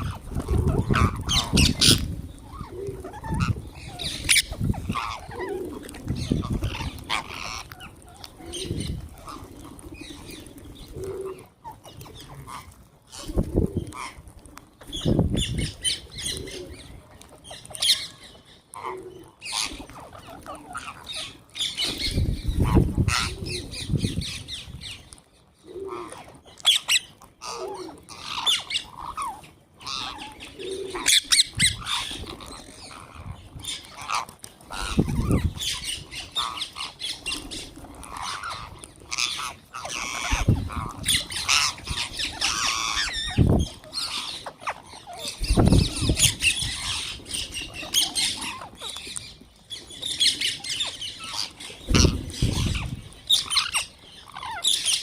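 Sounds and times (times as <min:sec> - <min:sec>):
parrots squawking and chattering: 0:00.0 - 0:55.0.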